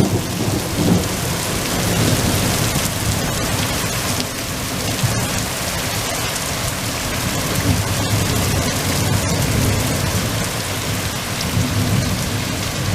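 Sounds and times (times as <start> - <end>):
low rumble of thunder: 0.0 - 5.6, 6.9 - 12.9
heavy rain pouring: 0.0 - 12.9.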